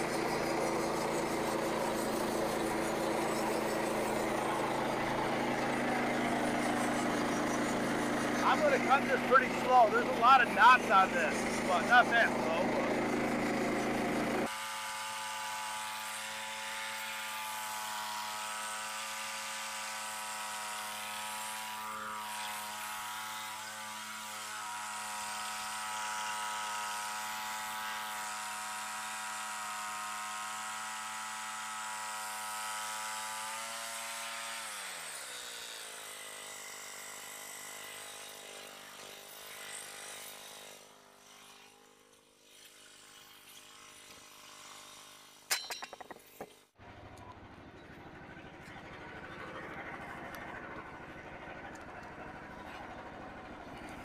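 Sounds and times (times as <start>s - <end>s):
small gasoline engine running: 0.0s - 45.4s, 46.8s - 54.0s.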